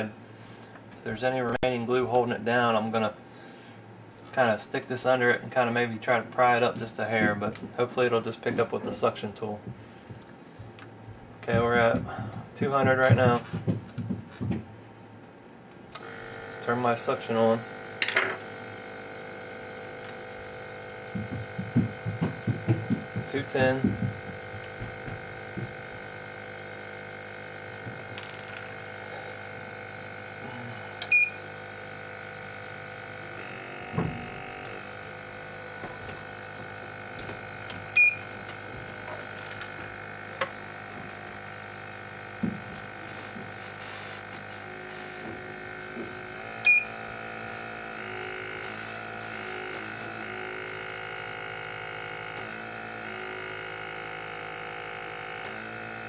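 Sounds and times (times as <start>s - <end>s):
rework station blower humming: 0.0s - 56.0s.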